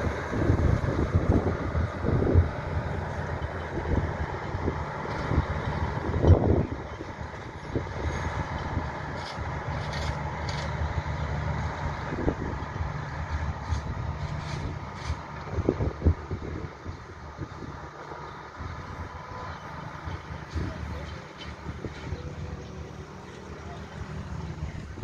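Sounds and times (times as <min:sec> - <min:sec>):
train engine rumble: 0:00.0 - 0:25.0.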